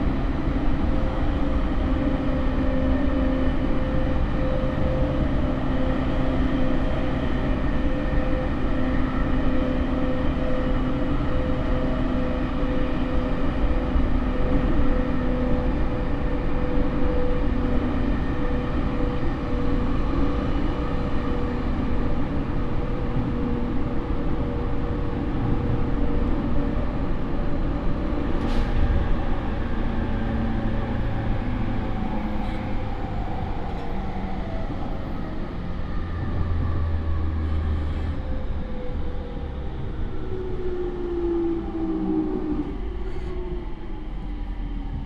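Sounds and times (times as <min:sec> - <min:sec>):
wheels rumbling on rail: 0:00.0 - 0:45.0.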